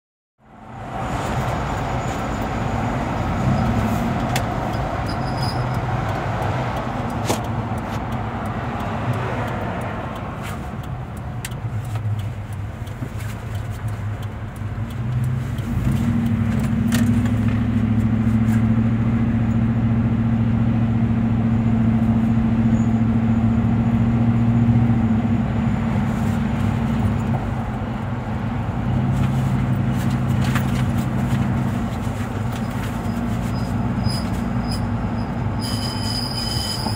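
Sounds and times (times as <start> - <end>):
pickup truck engine and road noise: 0.4 - 36.9.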